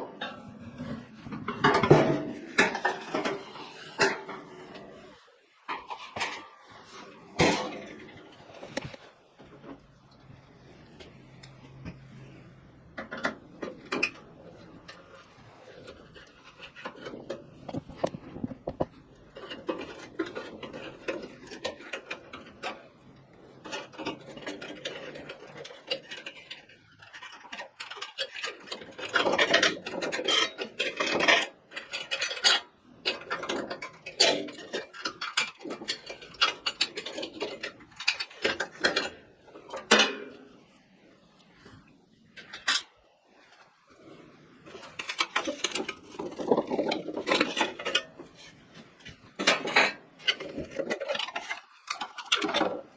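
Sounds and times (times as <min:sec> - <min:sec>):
hands clicking and scraping metal: 0:00.0 - 0:52.9.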